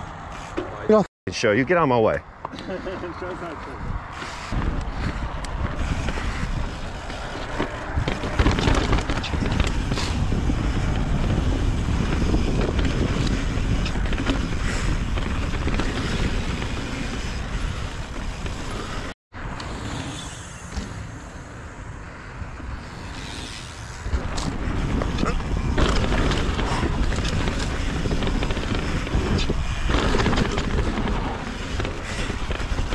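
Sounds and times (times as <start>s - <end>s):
wind buffeting microphone: 3.0s - 19.2s, 22.4s - 32.9s
bike tyres on dirt trail: 3.9s - 32.9s
bike knocking and rattling: 4.1s - 21.3s, 22.8s - 32.9s.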